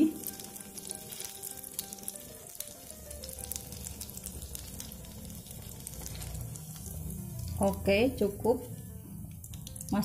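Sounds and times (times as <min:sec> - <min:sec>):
frying sizzle with crackles: 0:00.0 - 0:10.0.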